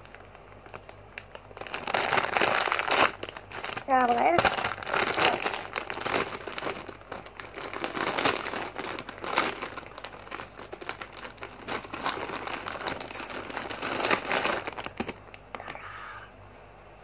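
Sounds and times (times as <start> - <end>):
plastic pouch crinkling: 0.0 - 15.8.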